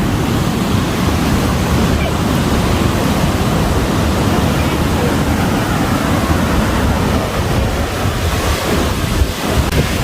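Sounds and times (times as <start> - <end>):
sea surf rushing: 0.0 - 10.0
wind buffeting microphone: 0.0 - 10.0.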